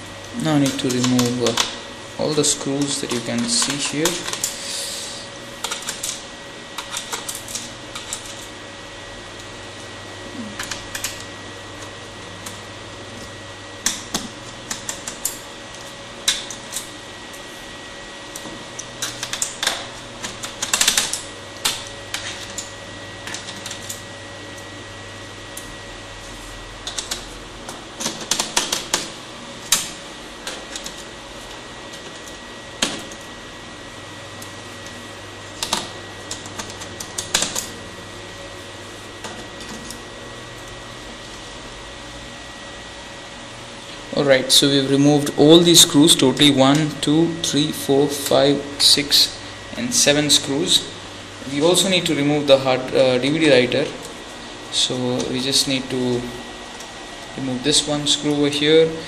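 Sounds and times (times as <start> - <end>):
faint hum with high tone: 0.0 - 59.0.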